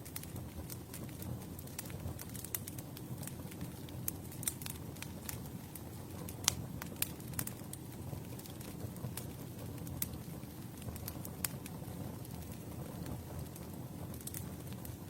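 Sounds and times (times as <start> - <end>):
campfire burning and crackling: 0.0 - 15.0.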